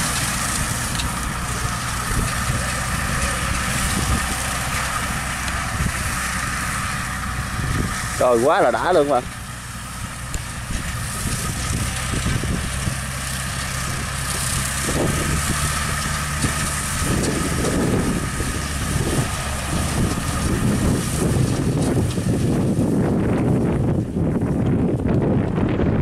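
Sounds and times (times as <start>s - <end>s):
mower mechanical whine: 0.0s - 26.0s
tractor diesel engine running: 0.0s - 26.0s.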